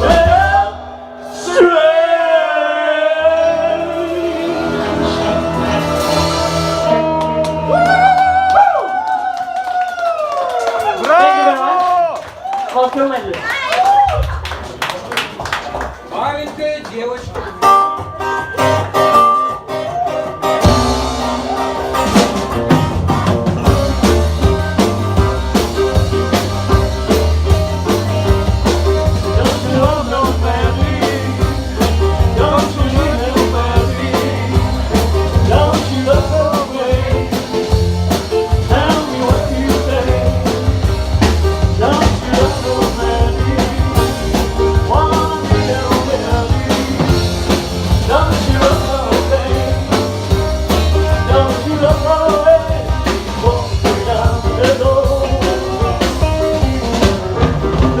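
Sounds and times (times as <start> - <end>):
drum kit beat: 0.0 - 1.0, 3.4 - 8.8, 17.3 - 58.0
bass guitar: 0.0 - 9.2, 17.3 - 58.0.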